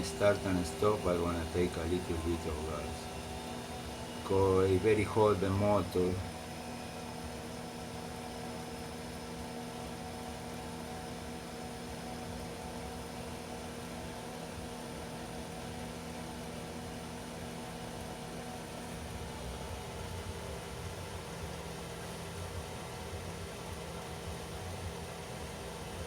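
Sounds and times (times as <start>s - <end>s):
refrigerator compressor humming: 0.0s - 26.0s.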